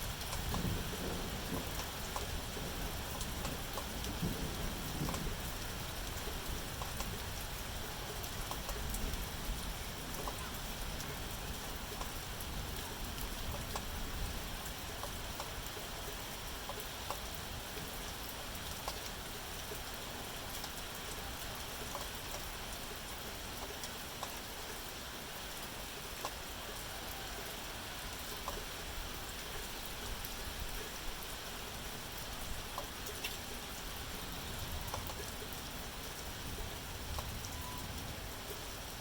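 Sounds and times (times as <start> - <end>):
raindrops ticking: 0.0 - 39.0
steady rain falling: 0.0 - 39.0.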